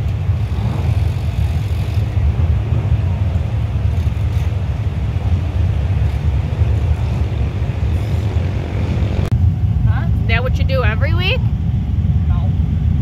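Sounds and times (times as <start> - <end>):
race car engines rumbling: 0.0 - 13.0.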